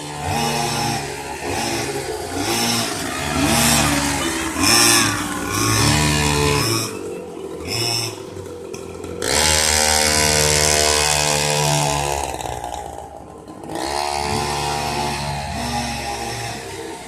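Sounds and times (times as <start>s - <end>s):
small motorcycle engine revving: 0.0s - 17.0s.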